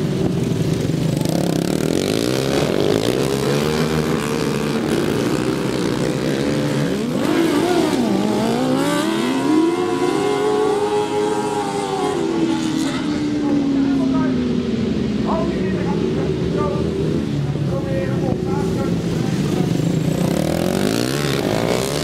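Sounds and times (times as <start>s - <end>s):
lawnmower engines revving: 0.0s - 22.0s.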